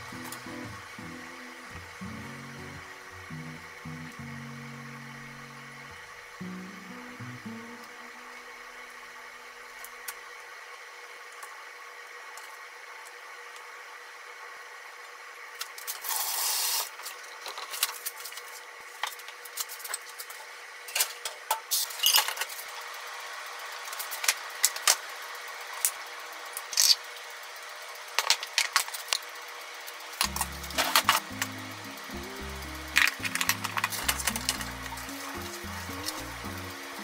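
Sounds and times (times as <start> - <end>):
faint steady hum: 0.0 - 21.5, 22.1 - 37.0.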